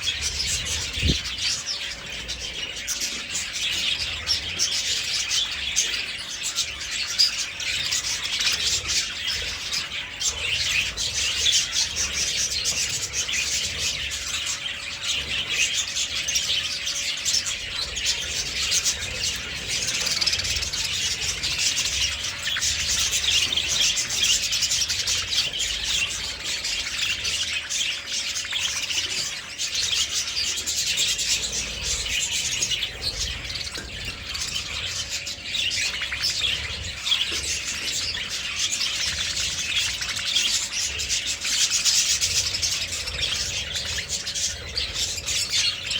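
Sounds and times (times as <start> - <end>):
budgerigars chattering and warbling: 0.0 - 45.9
faint steady hum: 0.0 - 45.9.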